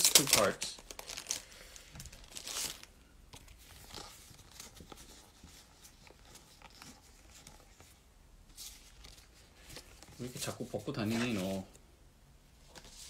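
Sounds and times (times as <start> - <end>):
paper cards rustling: 0.0 - 11.8, 12.6 - 13.0.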